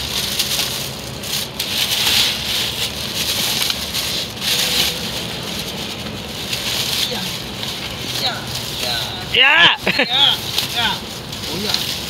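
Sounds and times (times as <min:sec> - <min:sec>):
plastic sheeting rustling: 0:00.0 - 0:12.0.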